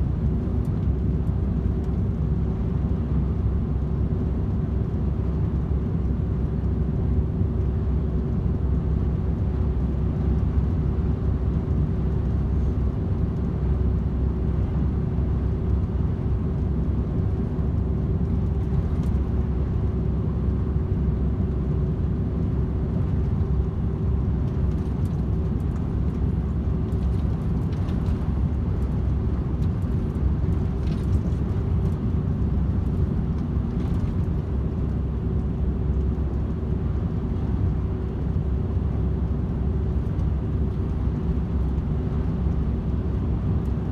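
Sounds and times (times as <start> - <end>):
constant hum: 0.0 - 43.9
road noise: 0.0 - 43.9.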